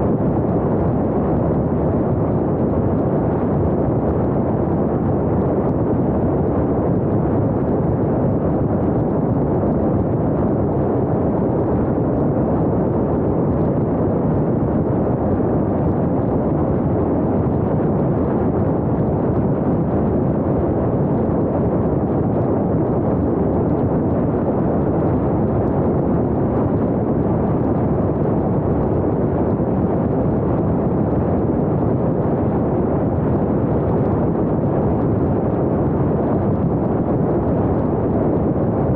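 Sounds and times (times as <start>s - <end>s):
wind rumble: 0.0s - 38.9s.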